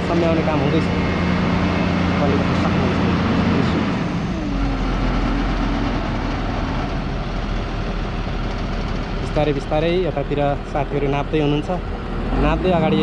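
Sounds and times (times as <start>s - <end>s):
road and wind rumble: 0.0s - 13.0s
vehicle engine running: 0.0s - 13.0s.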